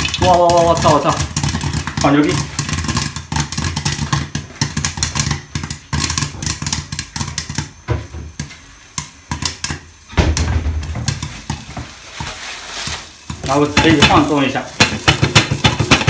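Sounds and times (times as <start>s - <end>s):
popcorn popping in a lidded pan: 0.0s - 16.0s.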